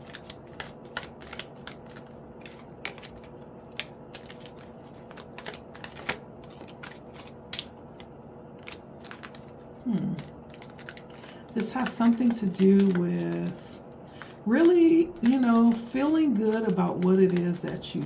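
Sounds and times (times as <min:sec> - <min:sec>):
cards clicking and tapping: 0:00.0 - 0:18.0
faint steady hum: 0:00.0 - 0:18.0.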